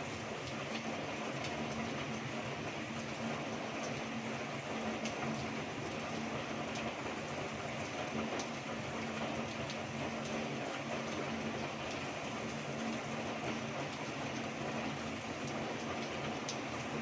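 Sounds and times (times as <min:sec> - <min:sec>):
heavy rain falling: 0:00.0 - 0:17.0
sharp raindrop ticks: 0:00.1 - 0:17.0.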